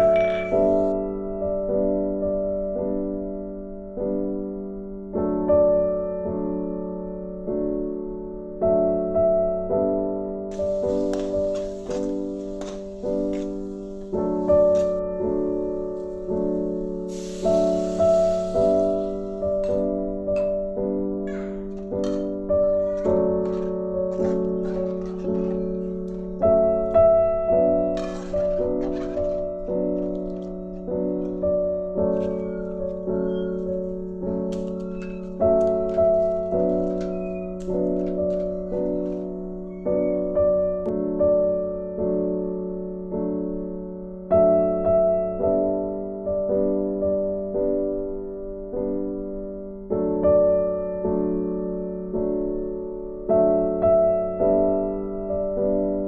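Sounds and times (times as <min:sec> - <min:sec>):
soft piano chords: 0:00.0 - 0:56.0.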